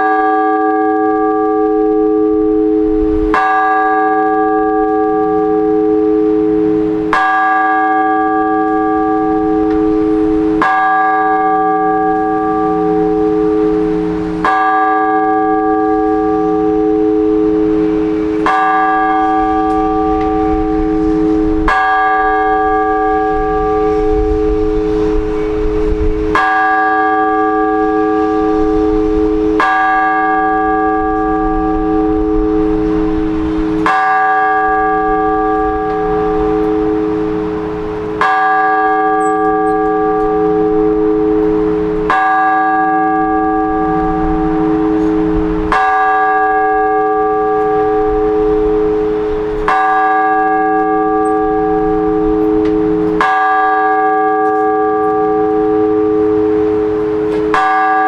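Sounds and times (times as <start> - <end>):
church bell tolling: 0.0 - 58.0.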